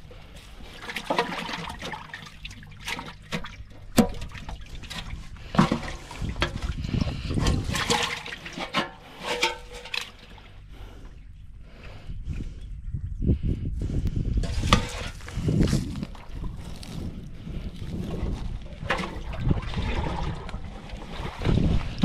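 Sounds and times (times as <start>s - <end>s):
water sloshing and splashing: 0.0s - 12.5s, 14.4s - 22.0s.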